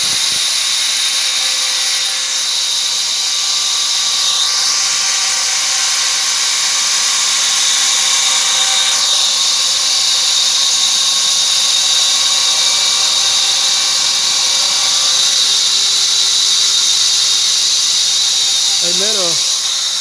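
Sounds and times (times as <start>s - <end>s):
bandsaw mill whining: 0.0s - 20.0s.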